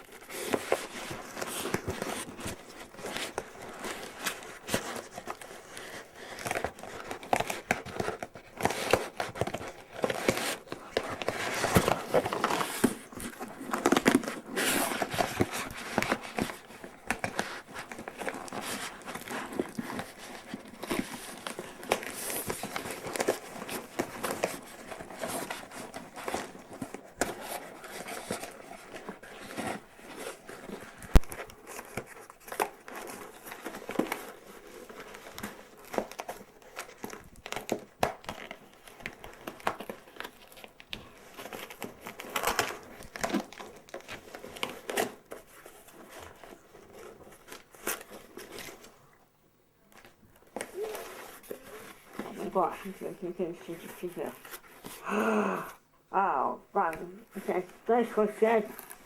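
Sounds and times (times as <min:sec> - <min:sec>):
packaging crinkling and rustling: 0:00.0 - 0:49.0, 0:49.9 - 0:55.1, 0:56.8 - 0:59.0.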